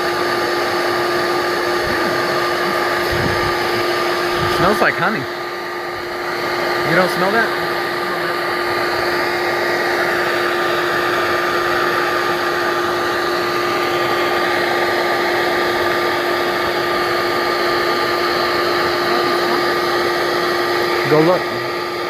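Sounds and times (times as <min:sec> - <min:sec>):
vacuum motor humming: 0:00.0 - 0:22.0
rushing air: 0:01.5 - 0:21.1.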